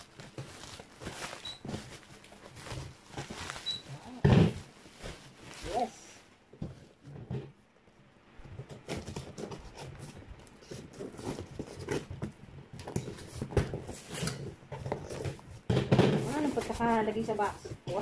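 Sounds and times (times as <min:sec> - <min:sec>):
cardboard rustling: 0:00.0 - 0:07.1, 0:08.5 - 0:18.0.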